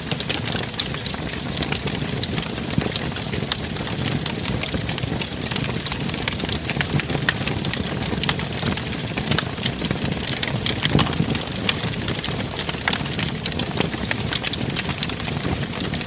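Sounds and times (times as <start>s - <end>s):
low rumble of flames: 0.0s - 16.0s
wood fire snapping and popping: 0.0s - 16.0s.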